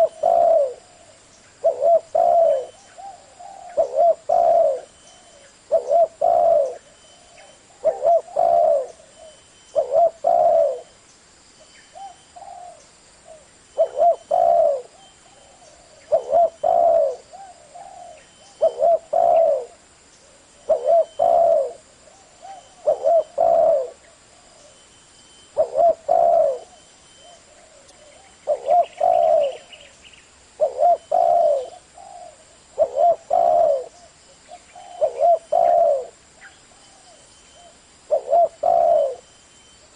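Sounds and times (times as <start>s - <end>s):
dove cooing: 0.0s - 10.9s, 11.9s - 24.8s, 25.5s - 29.9s, 30.5s - 39.3s.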